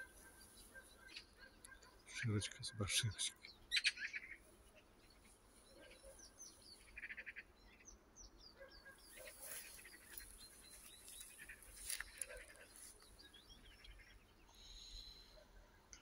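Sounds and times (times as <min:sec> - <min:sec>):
faint songbird chirps: 0:00.0 - 0:16.0.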